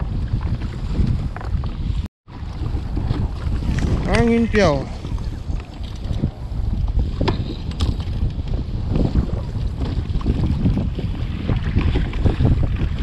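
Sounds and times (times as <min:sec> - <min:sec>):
water splashing around kayak: 0:00.0 - 0:13.0
wind buffeting microphone: 0:00.0 - 0:13.0.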